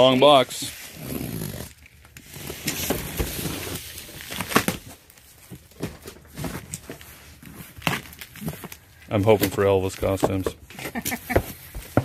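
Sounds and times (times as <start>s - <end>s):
cardboard rustling and scraping: 0.3s - 12.0s.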